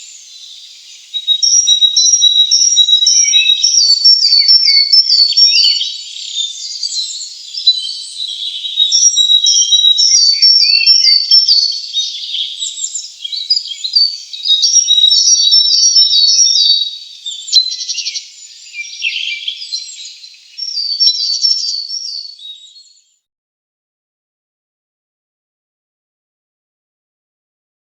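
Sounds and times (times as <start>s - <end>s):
songbirds chirping and singing: 0.0s - 23.2s.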